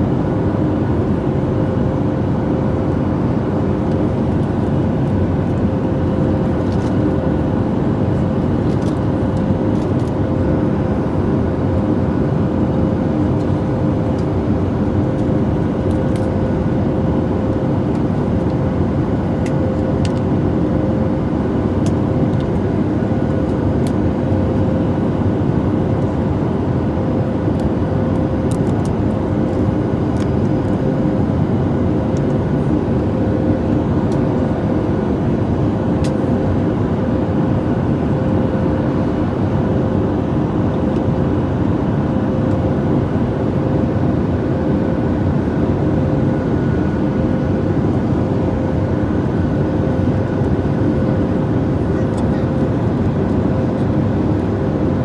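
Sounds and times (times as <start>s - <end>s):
cabin low drone: 0.0s - 55.0s.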